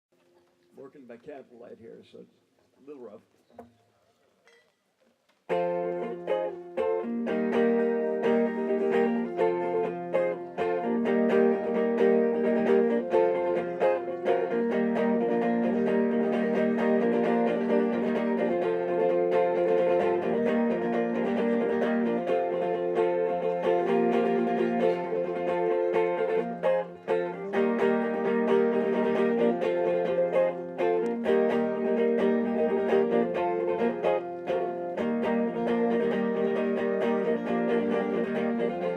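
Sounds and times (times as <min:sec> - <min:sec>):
acoustic guitar playing chords: 0:05.5 - 0:38.9.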